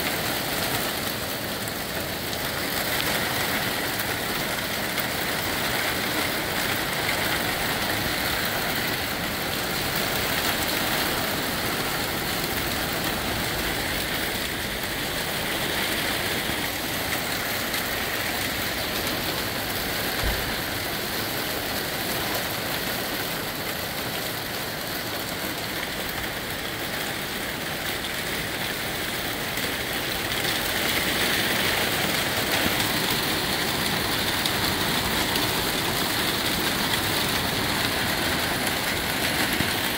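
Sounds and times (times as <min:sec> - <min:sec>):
rain and hail downpour: 0:00.0 - 0:39.9.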